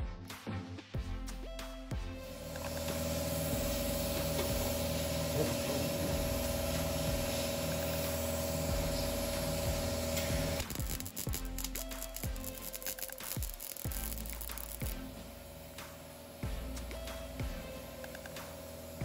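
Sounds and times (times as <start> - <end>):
welder hum: 2.1 - 19.0
welder frying hiss: 2.2 - 19.0.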